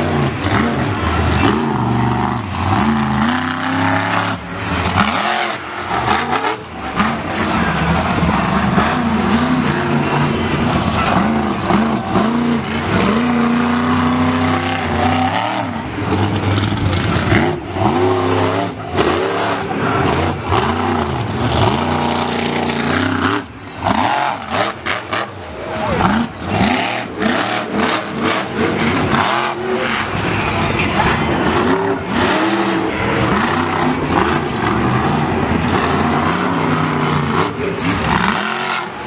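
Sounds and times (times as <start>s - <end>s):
racing engine revving: 0.0s - 39.0s.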